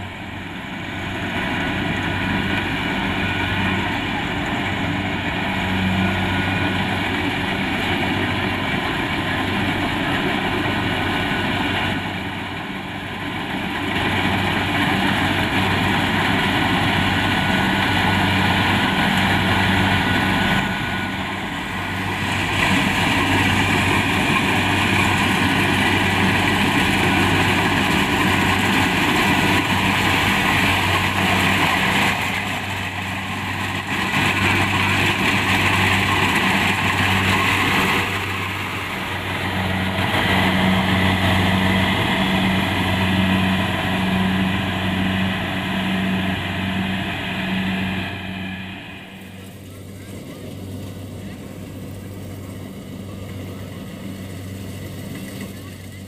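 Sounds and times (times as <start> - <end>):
diesel engine hum: 0.0 - 56.0
machinery clatter: 0.3 - 56.0.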